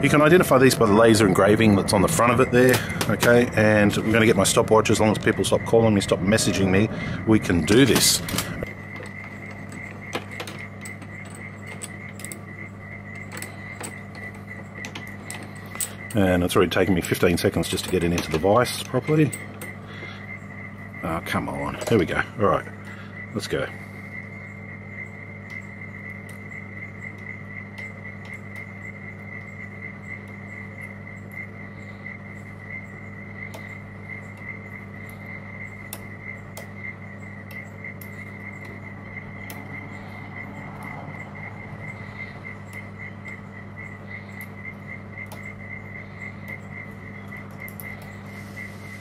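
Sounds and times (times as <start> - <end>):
insect trilling: 0.0 - 49.0
low steady hum: 0.0 - 49.0.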